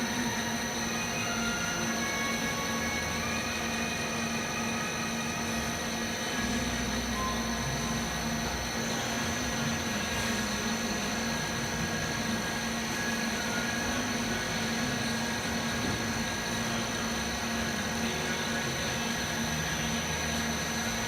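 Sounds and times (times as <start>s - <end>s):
lathe running with high whine: 0.0s - 21.0s.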